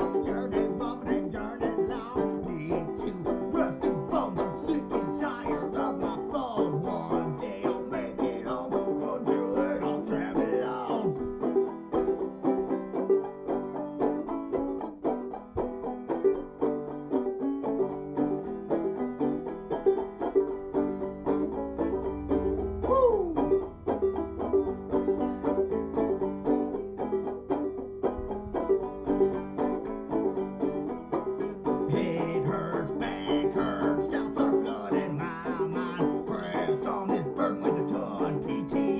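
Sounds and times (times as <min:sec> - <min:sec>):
plucked string-band music: 0:00.0 - 0:38.9.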